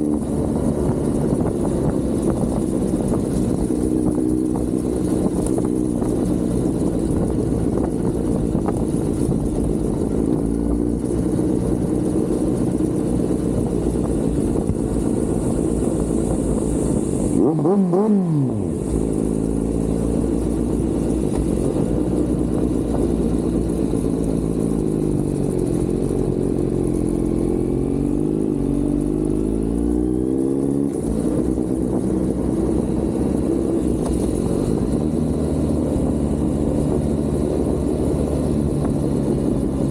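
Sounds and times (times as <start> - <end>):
low wind rumble: 0.0 - 39.9
motorcycle engine and exhaust: 0.0 - 39.9.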